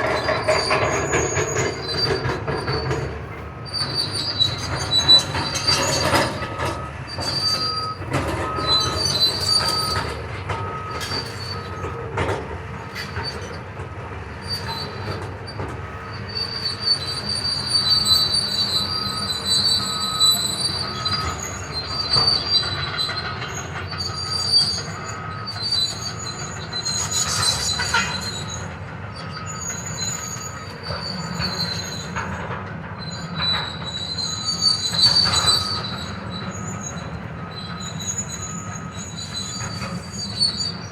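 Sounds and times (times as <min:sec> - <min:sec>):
high metallic squealing: 0:00.0 - 0:12.0, 0:14.4 - 0:40.9.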